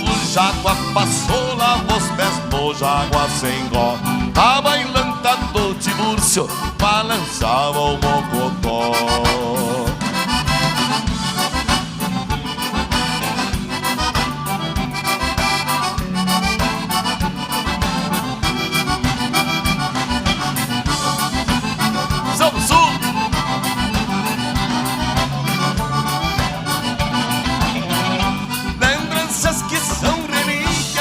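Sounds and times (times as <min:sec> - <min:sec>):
accordion: 0:00.0 - 0:31.0
drum beat: 0:00.0 - 0:31.0
steady bass: 0:00.0 - 0:31.0.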